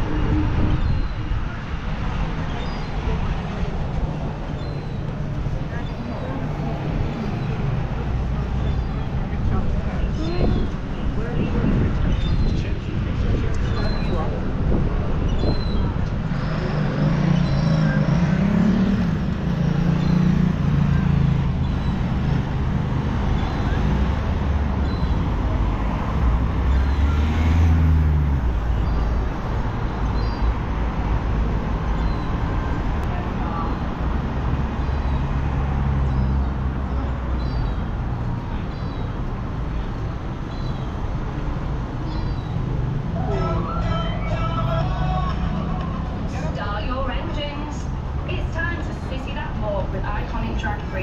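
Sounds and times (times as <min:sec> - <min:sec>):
cars driving past: 0:00.0 - 0:51.0.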